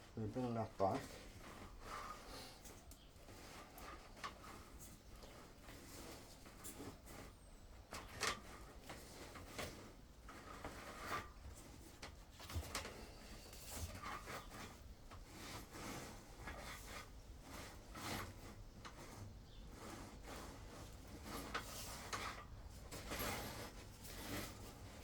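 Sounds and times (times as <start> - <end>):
drain shaft rubbing and clicking: 0.1 - 25.0.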